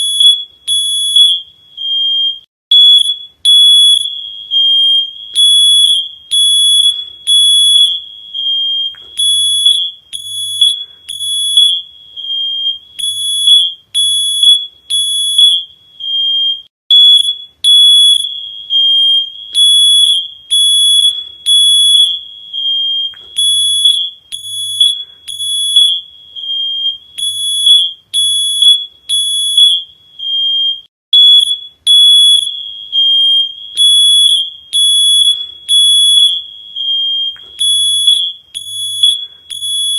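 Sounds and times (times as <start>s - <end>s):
electronic alarm beeping: 0.0s - 39.9s.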